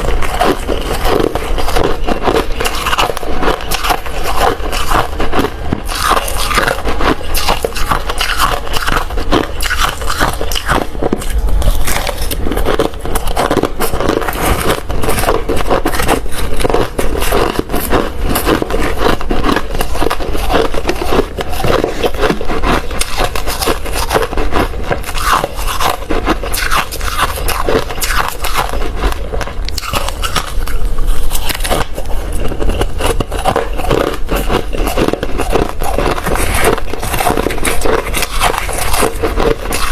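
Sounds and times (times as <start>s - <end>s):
ice crunching and chewing: 0.0s - 39.9s.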